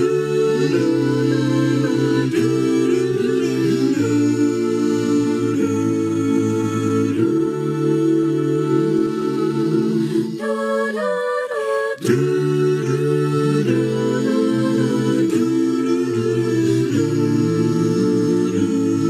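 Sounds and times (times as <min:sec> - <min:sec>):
vocal group humming harmony: 0:00.0 - 0:19.0.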